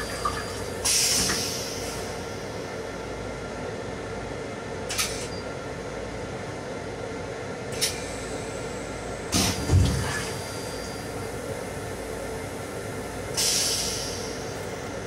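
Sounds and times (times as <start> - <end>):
railcar running rumble: 0.0 - 15.0.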